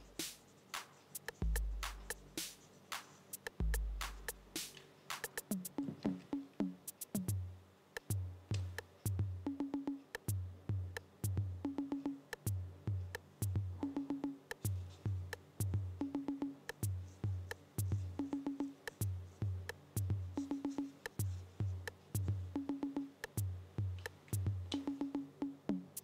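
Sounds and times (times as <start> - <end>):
drum machine thumps: 0.0 - 2.6, 3.4 - 26.0
lo-fi electronic music: 3.4 - 7.5, 8.1 - 26.0.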